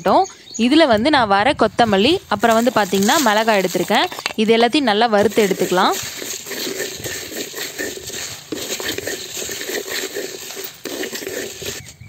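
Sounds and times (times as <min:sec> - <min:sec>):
seeds rattling in a clay pot: 0:02.0 - 0:11.9.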